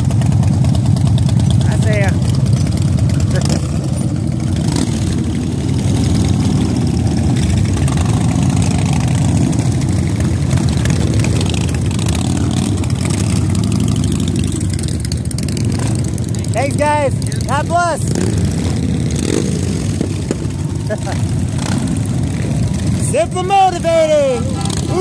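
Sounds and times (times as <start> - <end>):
motorcycle engines idling: 0.0 - 25.0.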